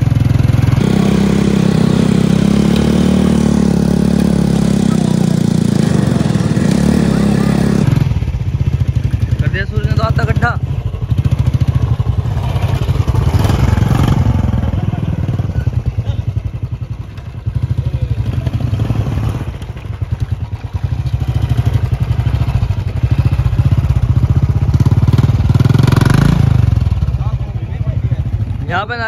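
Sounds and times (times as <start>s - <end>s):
motorcycle engine thumping: 0.0s - 27.2s.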